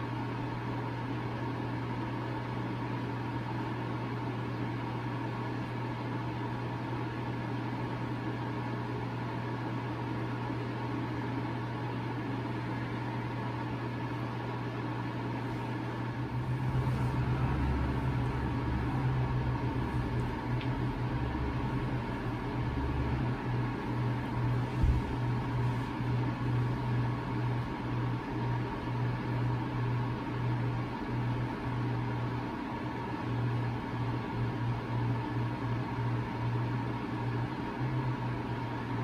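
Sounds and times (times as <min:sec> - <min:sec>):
room hum: 0:00.0 - 0:39.0.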